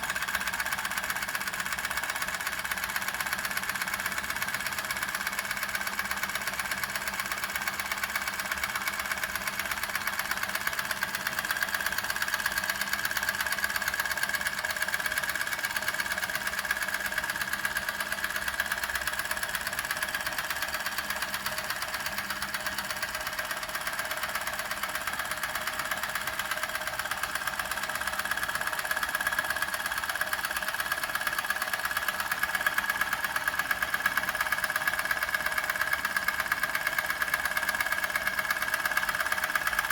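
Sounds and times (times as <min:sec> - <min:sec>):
toy steam engine clattering: 0:00.0 - 0:39.9.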